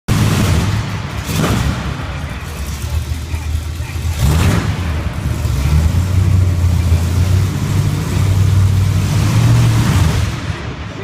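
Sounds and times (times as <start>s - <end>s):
pickup truck engine running: 0.1s - 11.0s.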